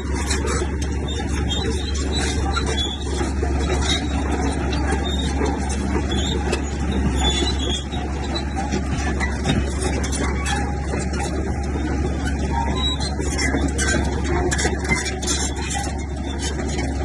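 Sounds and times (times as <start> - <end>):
diesel earthmoving machinery: 0.0 - 17.0.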